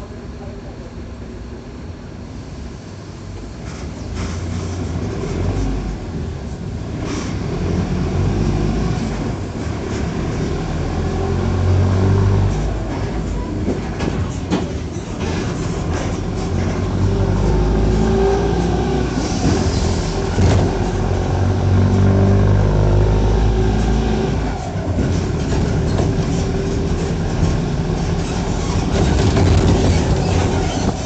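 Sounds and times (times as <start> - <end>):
bus diesel engine under load: 0.0 - 31.0.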